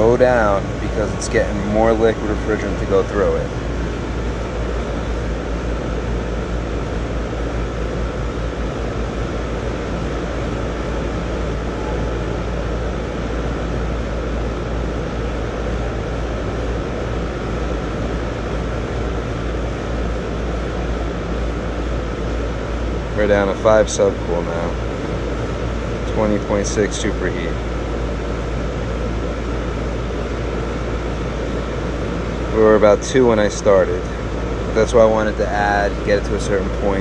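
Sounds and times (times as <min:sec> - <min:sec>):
air conditioner unit humming: 0:00.0 - 0:37.0
faint steady whine: 0:00.0 - 0:37.0.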